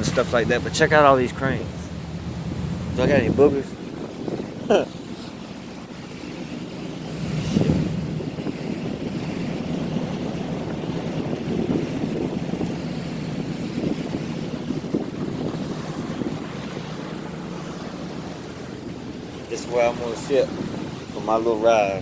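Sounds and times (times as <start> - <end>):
tugboat engine running: 0.0 - 22.0
wind buffeting microphone: 0.0 - 22.0.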